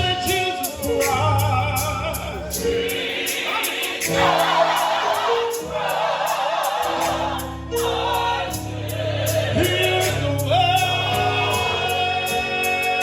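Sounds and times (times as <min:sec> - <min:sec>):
gospel choir singing: 0:02.1 - 0:13.0.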